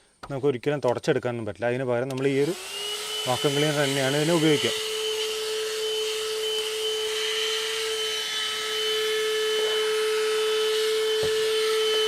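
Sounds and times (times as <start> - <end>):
handheld vacuum cleaner running: 2.2 - 12.0.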